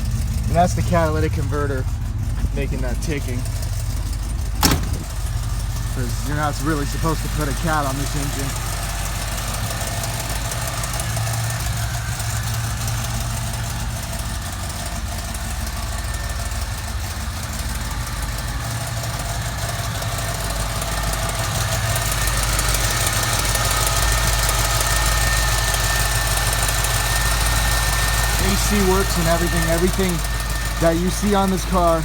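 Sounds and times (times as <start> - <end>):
car engine idling: 0.0 - 32.0
ticking at idle: 0.0 - 32.0.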